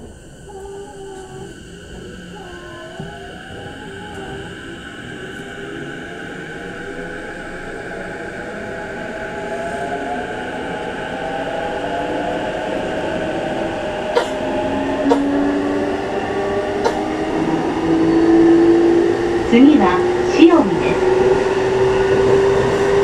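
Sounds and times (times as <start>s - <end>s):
electric train motor whine: 0.0s - 23.0s
train running noise: 0.0s - 23.0s.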